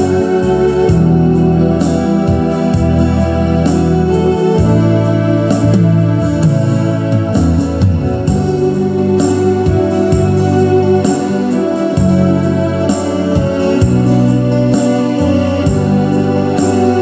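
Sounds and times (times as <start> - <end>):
keyboard playing organ hymn: 0.0 - 17.0.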